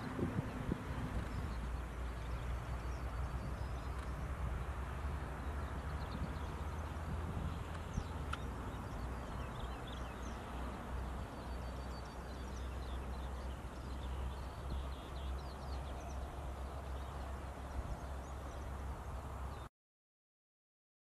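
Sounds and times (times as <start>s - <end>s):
small birds chirping and trilling: 0.0s - 19.7s.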